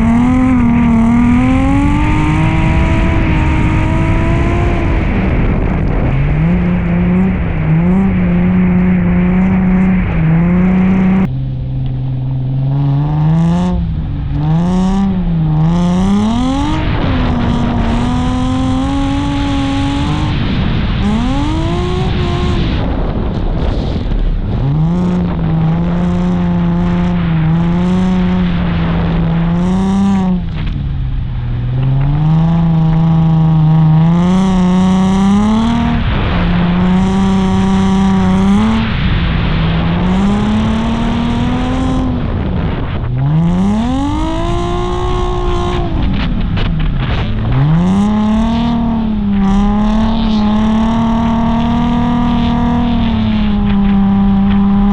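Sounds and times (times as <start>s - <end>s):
car engine revving hard: 0.0s - 54.9s.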